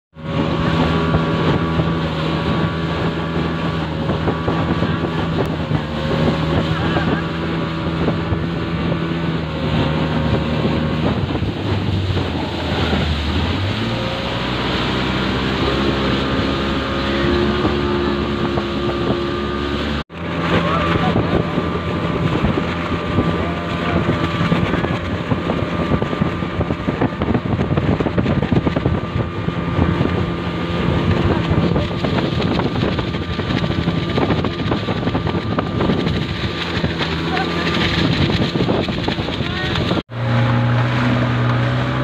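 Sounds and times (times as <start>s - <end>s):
speedboat engine running: 0.1s - 42.0s
water rushing past hull: 0.1s - 42.0s
wind on microphone: 0.2s - 42.0s.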